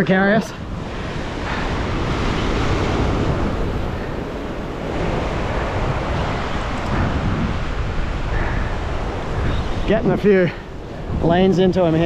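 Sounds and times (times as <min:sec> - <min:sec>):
ocean surf breaking on rocks: 0:00.0 - 0:12.0
wind buffeting microphone: 0:00.0 - 0:12.0.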